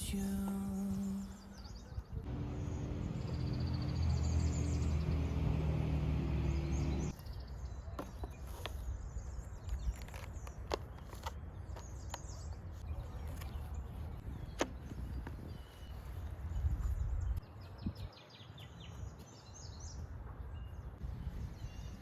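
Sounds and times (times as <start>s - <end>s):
outdoor ambience: 0.0s - 22.0s.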